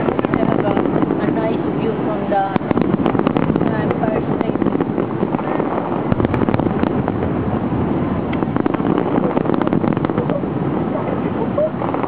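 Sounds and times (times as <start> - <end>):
fireworks crackling and popping: 0.0 - 12.0
steady low noise: 0.0 - 12.0.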